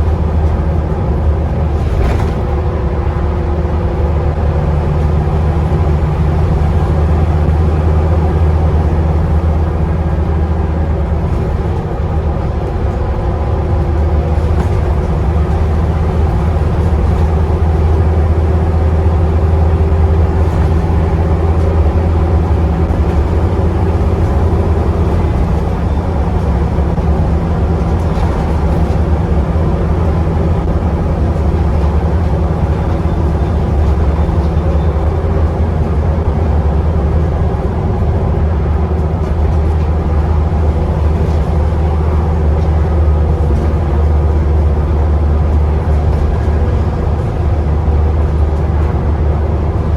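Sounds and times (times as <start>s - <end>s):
bus diesel engine drone: 0.0s - 49.9s.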